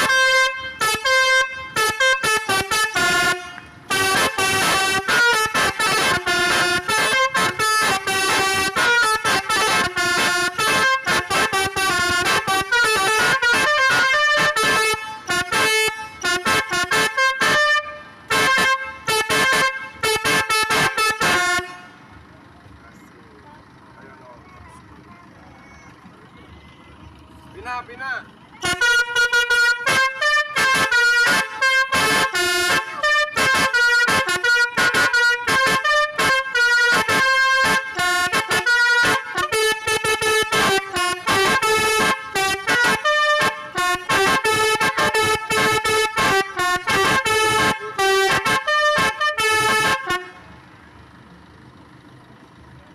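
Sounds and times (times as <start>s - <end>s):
bus horn playing a tune: 0.0s - 25.4s, 26.8s - 52.0s.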